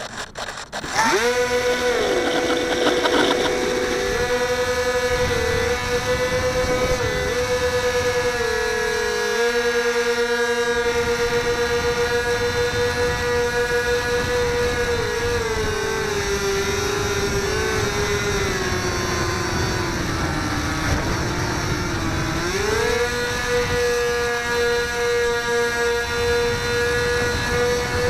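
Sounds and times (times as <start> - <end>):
electric motor and propeller whining: 0.0 - 28.0
wind rumble on microphone: 1.1 - 9.6, 10.7 - 28.0.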